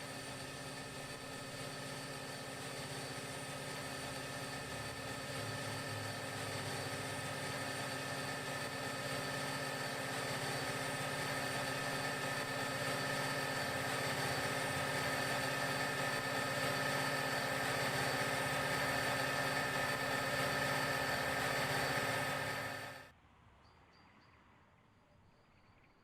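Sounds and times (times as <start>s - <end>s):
diesel locomotive engine running: 0.0s - 23.1s.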